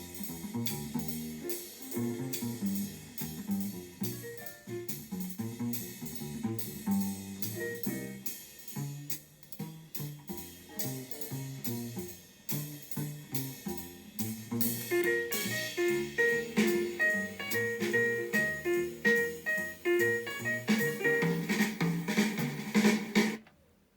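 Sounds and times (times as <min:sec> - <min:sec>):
jazz instrumental music: 0:00.0 - 0:23.4.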